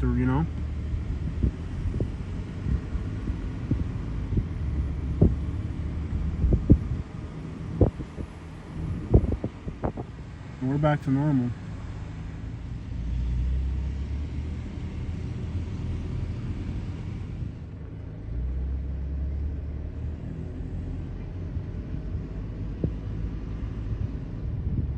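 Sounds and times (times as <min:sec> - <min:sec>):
car driving rumble: 0:00.0 - 0:24.9.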